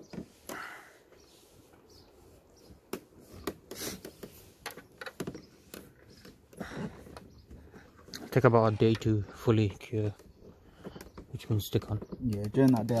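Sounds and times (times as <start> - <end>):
hands tapping and rubbing plastic: 1.7 - 13.0.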